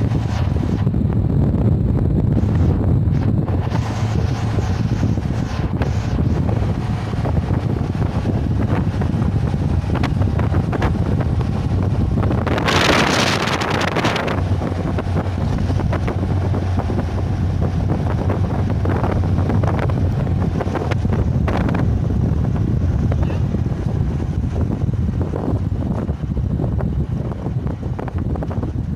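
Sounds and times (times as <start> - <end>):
low rumble: 0.0 - 28.9
rushing wind gust: 0.0 - 28.9
wind buffeting microphone: 0.0 - 28.9.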